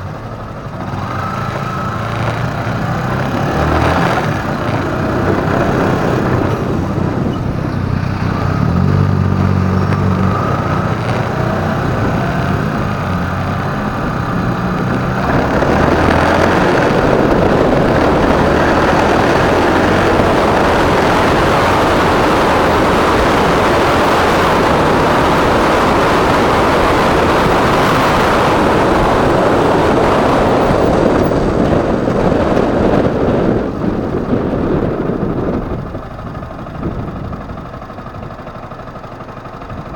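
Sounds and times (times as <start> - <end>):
motorcycle engine running: 0.0 - 39.9
wind rushing: 0.8 - 37.8.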